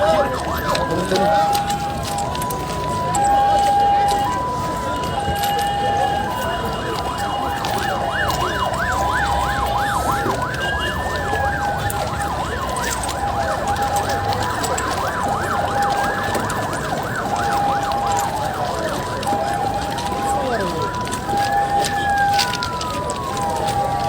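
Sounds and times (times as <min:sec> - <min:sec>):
emergency vehicle sirens: 0:00.0 - 0:24.0.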